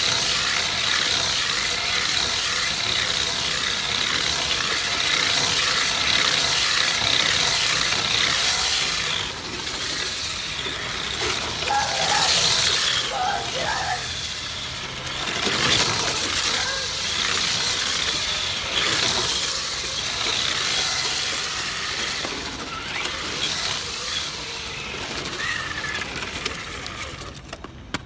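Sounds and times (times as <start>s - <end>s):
toy car tyres sliding and scraping: 0.0s - 28.0s.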